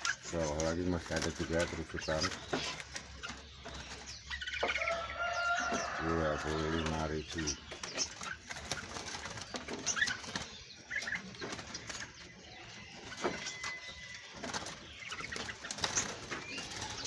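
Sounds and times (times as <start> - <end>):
songbirds chirping: 0.0 - 17.0
wings fluttering: 0.0 - 17.0.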